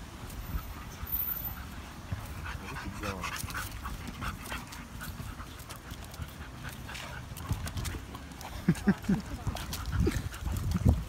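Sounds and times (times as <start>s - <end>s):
dogs play noises: 0.0s - 11.0s
dogs panting: 0.3s - 11.0s.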